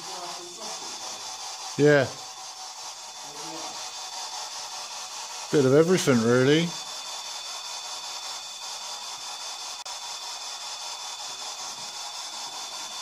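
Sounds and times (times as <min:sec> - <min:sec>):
recording hiss: 0:00.0 - 0:13.0.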